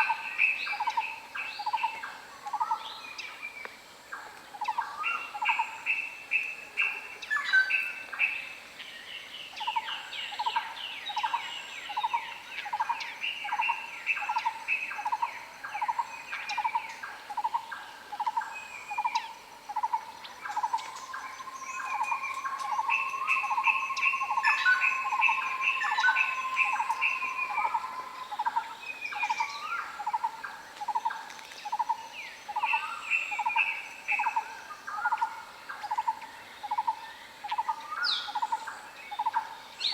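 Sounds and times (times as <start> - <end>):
bird chirps: 0.0 - 3.6, 9.4 - 39.9
long steady bird whistle: 0.0 - 39.9.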